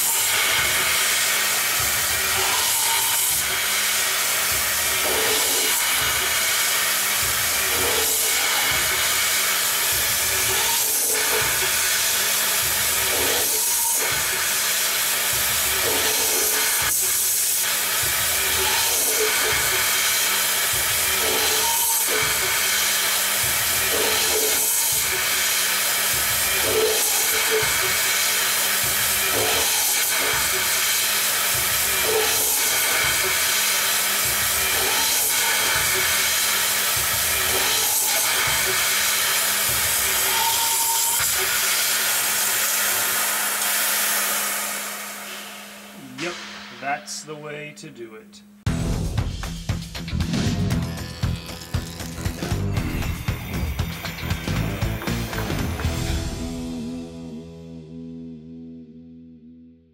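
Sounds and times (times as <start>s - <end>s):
lathe machining hiss: 0.0s - 47.7s, 50.8s - 56.2s.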